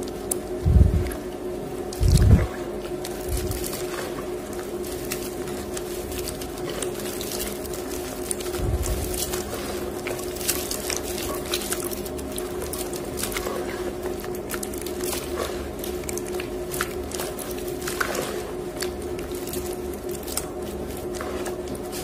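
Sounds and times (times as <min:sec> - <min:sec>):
washing machine humming: 0:00.0 - 0:22.0
hands squelching wet paste: 0:01.9 - 0:22.0.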